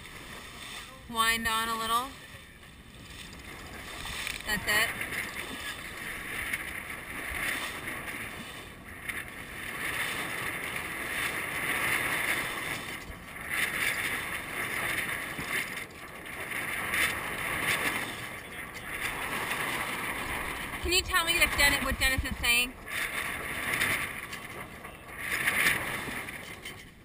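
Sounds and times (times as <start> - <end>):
water rushing along boat bow: 0.0 - 27.0
wind on microphone: 0.0 - 27.0.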